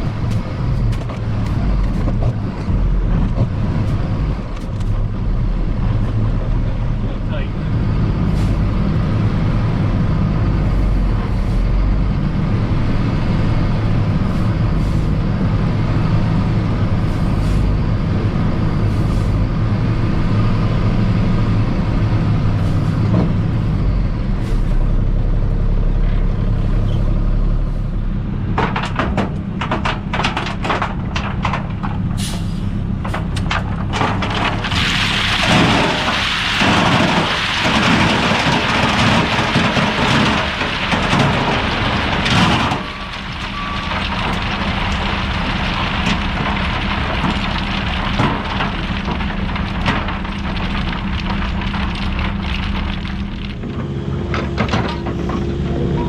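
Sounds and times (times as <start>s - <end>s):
heavy diesel equipment running: 0.0s - 56.0s.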